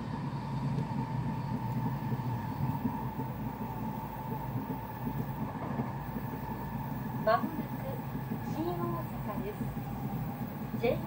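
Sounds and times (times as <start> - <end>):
faint constant whine: 0.0 - 11.0
train cabin low rumble: 0.0 - 11.0.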